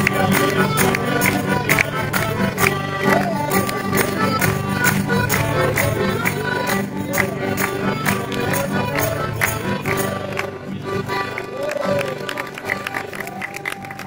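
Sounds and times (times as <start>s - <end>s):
folk dance music: 0.0s - 14.0s.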